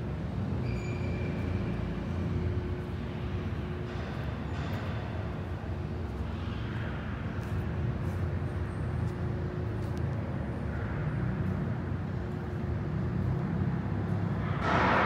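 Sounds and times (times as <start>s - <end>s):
machinery humming and rumbling: 0.0s - 15.0s.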